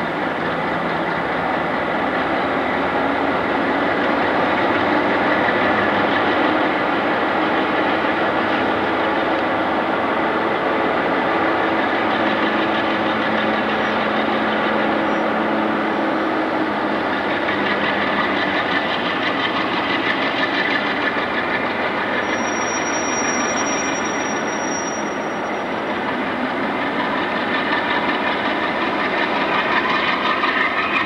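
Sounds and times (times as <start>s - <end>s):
diesel locomotive engine running: 0.0s - 31.0s
train rumbling on rails: 0.0s - 31.0s.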